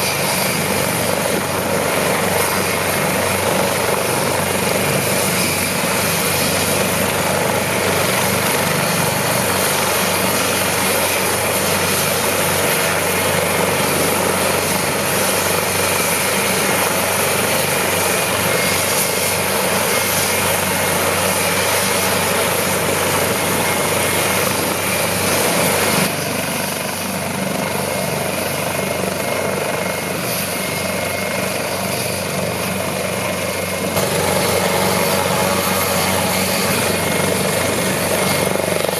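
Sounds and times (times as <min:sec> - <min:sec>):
helicopter rotor and turbine noise: 0:00.0 - 0:38.9.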